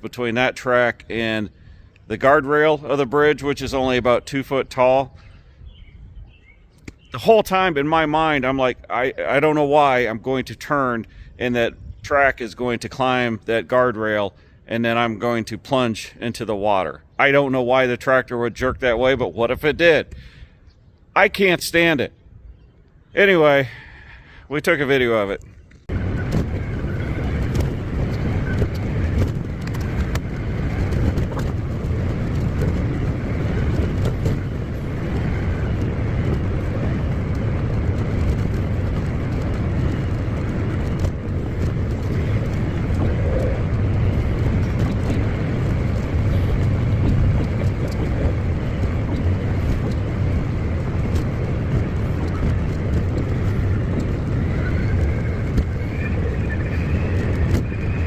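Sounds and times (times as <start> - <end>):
tracked tractor rumbling: 0.0 - 58.0.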